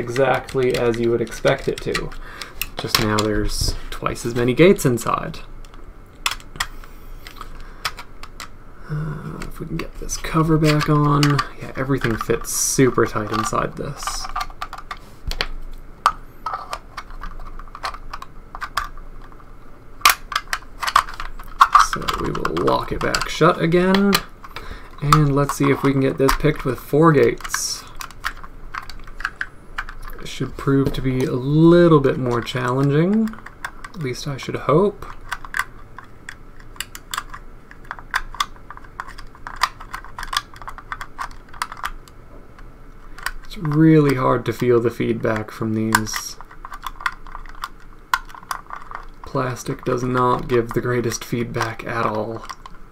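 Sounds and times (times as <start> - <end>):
plastic parts clicking: 0.0 - 8.6, 9.2 - 52.8.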